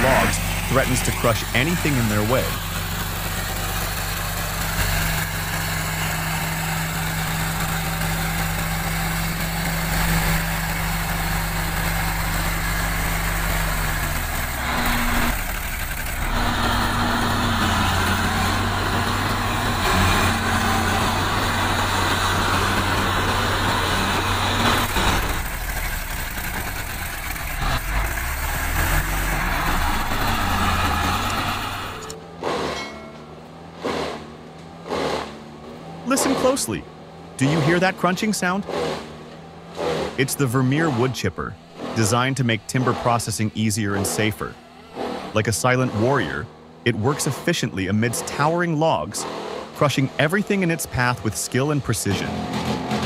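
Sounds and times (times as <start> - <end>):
crawler loader engine: 0.0 - 53.0
log truck engine under load: 0.0 - 53.0.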